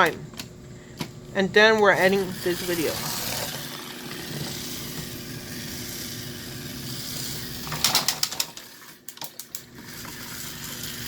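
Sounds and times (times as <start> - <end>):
toy train motor whir: 2.0 - 11.0.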